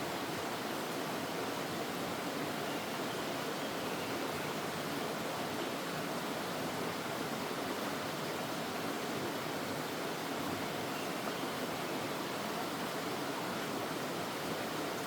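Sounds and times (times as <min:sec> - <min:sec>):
mountain stream rushing over rocks: 0:00.0 - 0:15.0.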